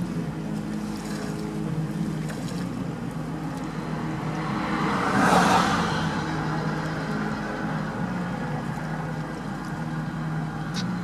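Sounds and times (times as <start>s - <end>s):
motor engine humming: 0.0s - 11.0s.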